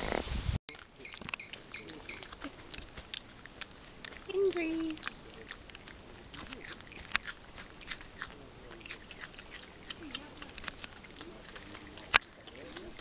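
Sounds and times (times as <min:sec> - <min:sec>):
animal chewing with crunches: 0:00.0 - 0:13.0.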